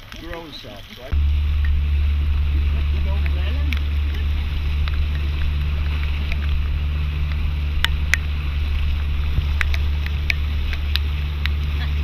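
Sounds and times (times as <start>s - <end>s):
boat motor humming: 1.1s - 12.0s.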